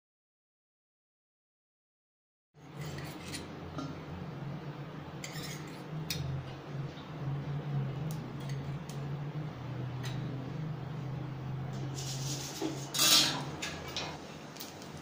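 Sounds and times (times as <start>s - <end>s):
steady low hum: 2.6s - 15.0s.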